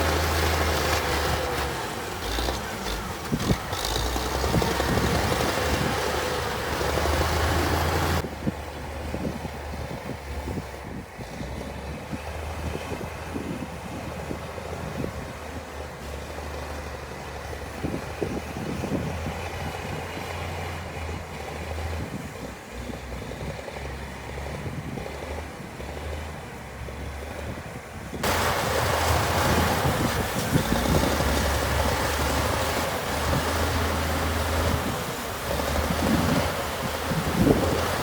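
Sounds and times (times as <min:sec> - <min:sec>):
diesel engine of earthmoving machinery: 0:00.0 - 0:38.0.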